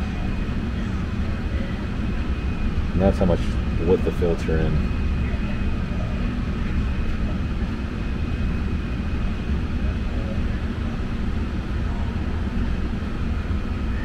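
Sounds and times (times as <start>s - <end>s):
furnace blower running: 0.0s - 14.0s.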